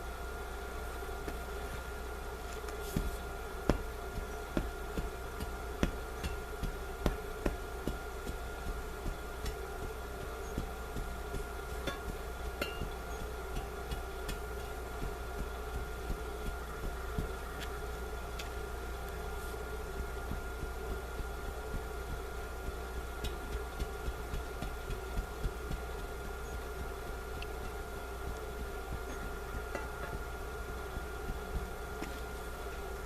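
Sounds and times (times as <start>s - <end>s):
steady hum with tones: 0.0s - 33.0s.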